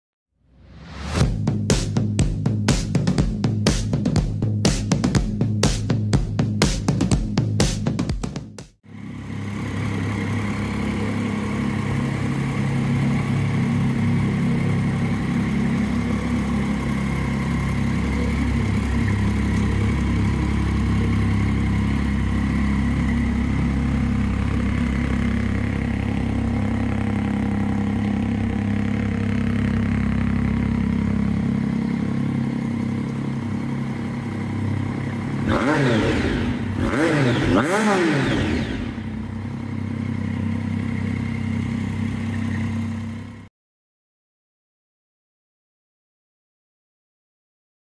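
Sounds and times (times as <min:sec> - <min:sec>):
motorcycle engine idling: 0:01.2 - 0:08.0, 0:08.9 - 0:43.5.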